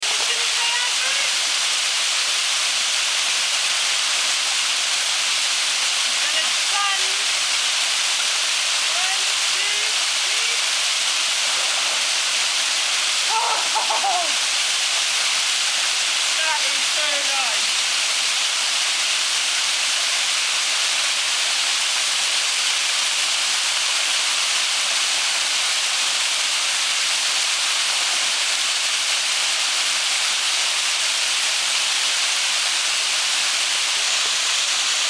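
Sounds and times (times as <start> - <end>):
waterfall rushing into a pool: 0.0 - 35.0.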